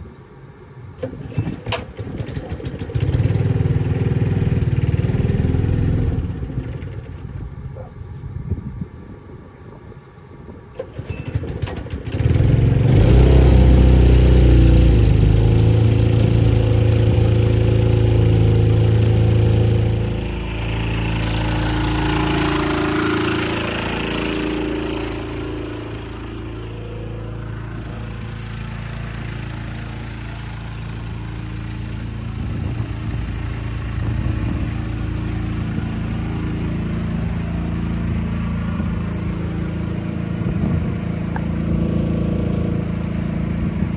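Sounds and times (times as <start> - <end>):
engine running: 0.0 - 8.2, 8.8 - 43.9.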